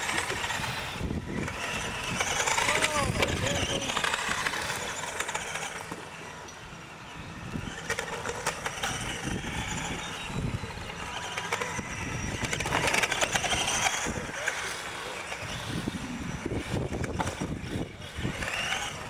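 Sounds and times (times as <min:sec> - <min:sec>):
toy trucks clicking and knocking: 0:00.0 - 0:06.8, 0:07.6 - 0:19.0
electric motors whining: 0:00.0 - 0:19.0.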